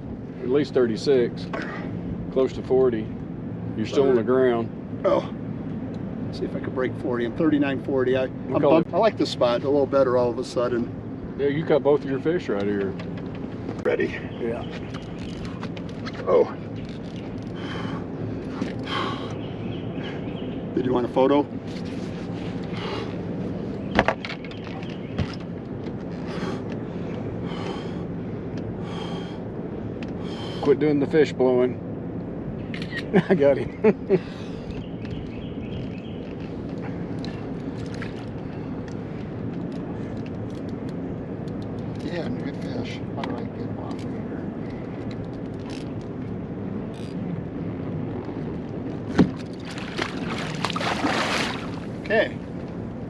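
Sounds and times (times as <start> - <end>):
boat engine low rumble: 0.0 - 53.0
steady low hum: 0.0 - 53.0.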